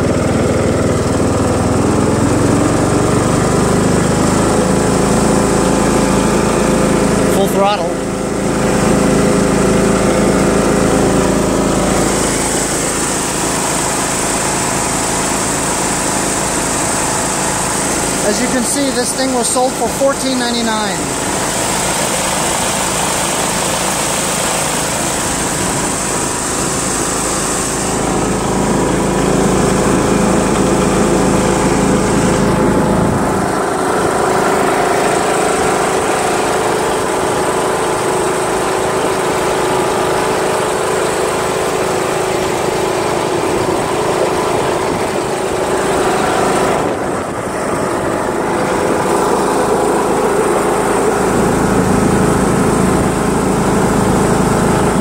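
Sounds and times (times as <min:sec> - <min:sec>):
riding mower engine running: 0:00.0 - 0:55.0.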